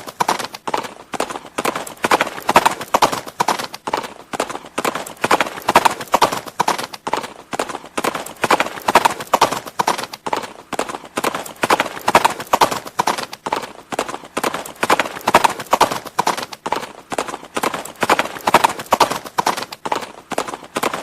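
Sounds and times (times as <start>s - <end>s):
horse hoofbeats clip-clopping: 0.0s - 21.0s.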